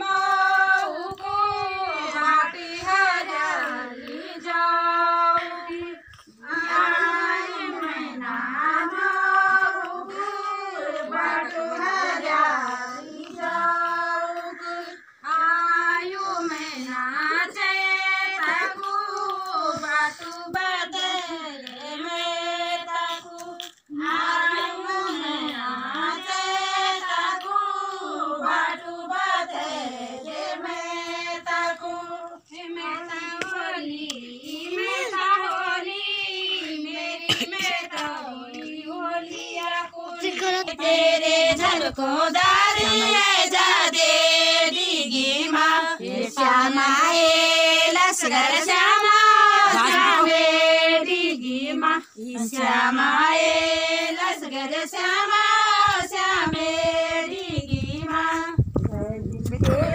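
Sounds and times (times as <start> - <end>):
women singing in unison: 0.0 - 59.9.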